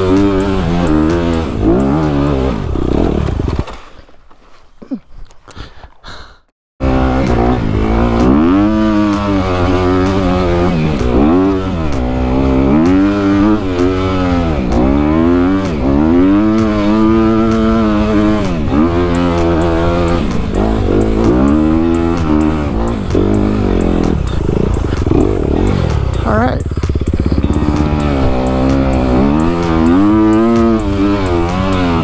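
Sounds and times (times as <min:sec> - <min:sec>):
dirt bike engine revving: 0:00.0 - 0:03.8, 0:06.8 - 0:32.0.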